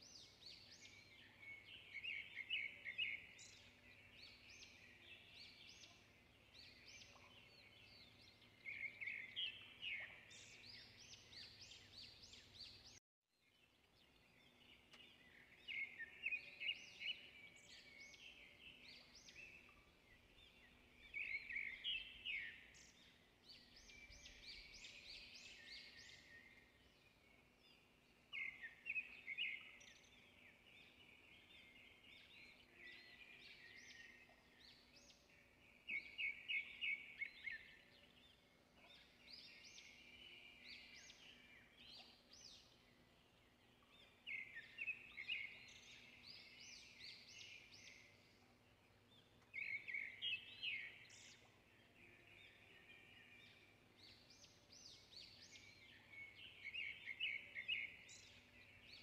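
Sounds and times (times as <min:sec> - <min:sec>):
faint bird chirping: 0:00.0 - 0:59.0.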